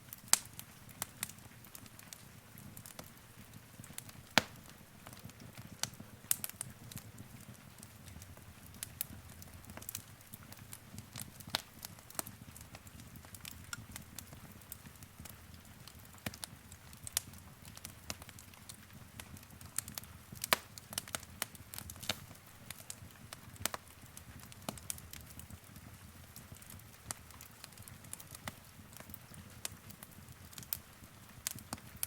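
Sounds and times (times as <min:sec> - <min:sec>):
fireplace fire crackling: 0:00.0 - 0:32.0.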